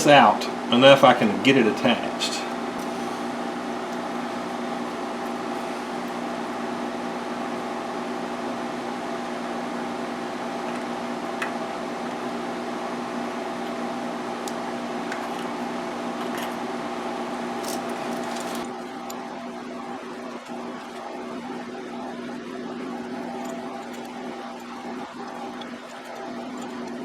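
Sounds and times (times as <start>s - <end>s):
electric machine hum: 0.0s - 27.0s.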